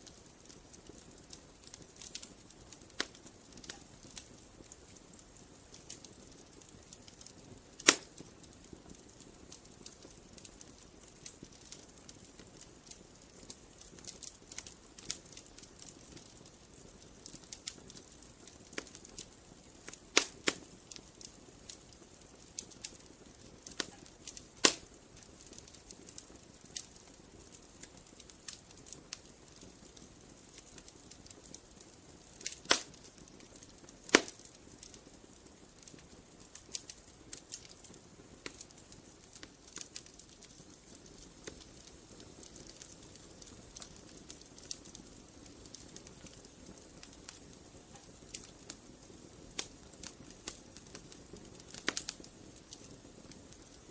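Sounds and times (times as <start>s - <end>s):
sharp pops from fire: 0.0s - 53.9s
wood fire crackling: 0.0s - 53.9s.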